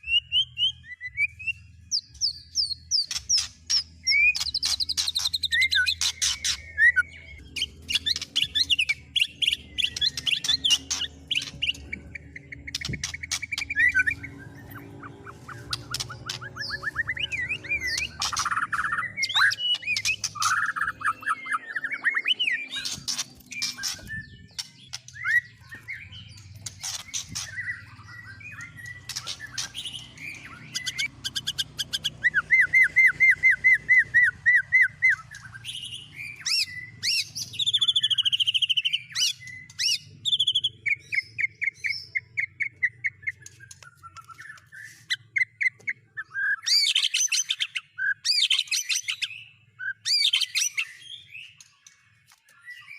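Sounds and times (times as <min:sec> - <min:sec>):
songbird chirps and trills: 0:00.0 - 0:52.9.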